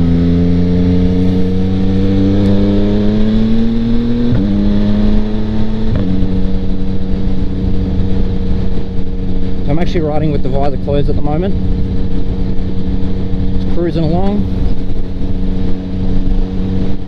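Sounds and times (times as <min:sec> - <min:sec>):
motorcycle engine revving: 0:00.0 - 0:17.0
wind noise: 0:00.0 - 0:17.0.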